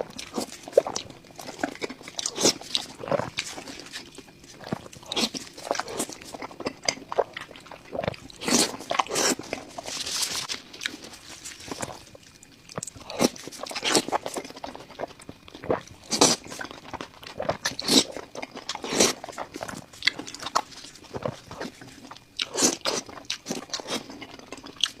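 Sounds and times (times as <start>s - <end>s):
crunchy biting and chewing: 0.0s - 25.0s.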